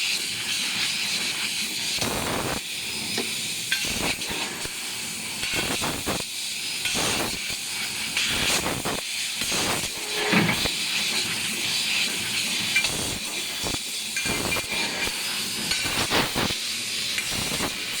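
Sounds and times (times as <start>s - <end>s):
laser cutter steady hiss: 0.0s - 18.0s.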